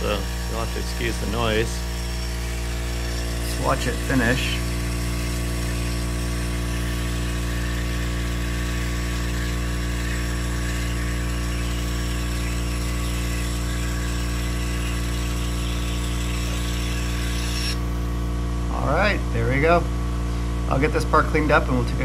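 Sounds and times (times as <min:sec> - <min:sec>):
water pump humming: 0:00.0 - 0:22.0.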